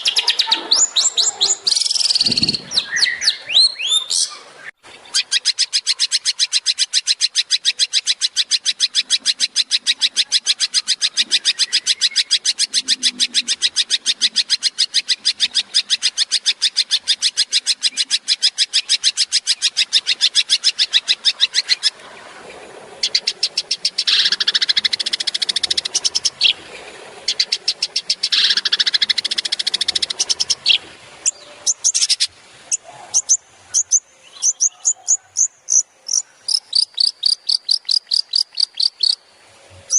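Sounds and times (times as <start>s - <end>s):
bird chattering song: 0.0s - 22.0s, 23.0s - 26.6s, 27.2s - 39.9s
shrike rattling song: 4.8s - 39.3s.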